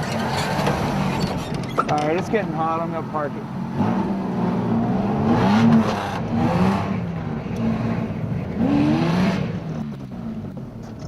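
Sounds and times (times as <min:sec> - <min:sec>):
pickup engine revving: 0:00.0 - 0:11.0.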